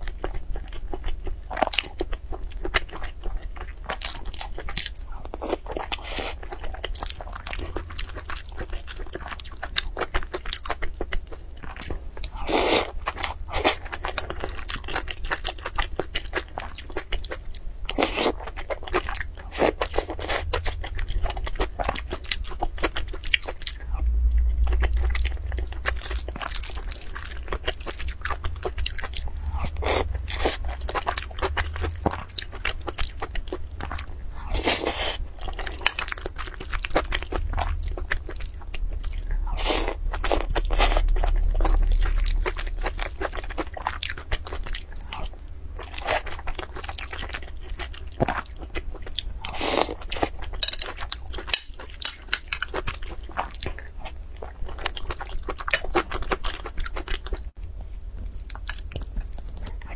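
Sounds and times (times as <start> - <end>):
chewing and crunching food: 0.0 - 59.9
steady low rumble: 0.0 - 59.9.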